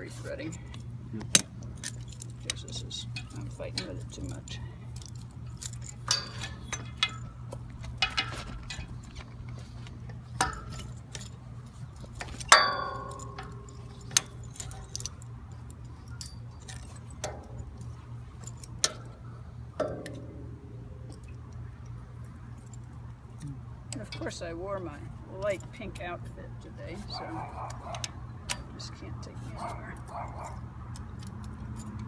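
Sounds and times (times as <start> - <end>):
bike lock links clinking: 0.0 - 26.1, 26.8 - 32.0.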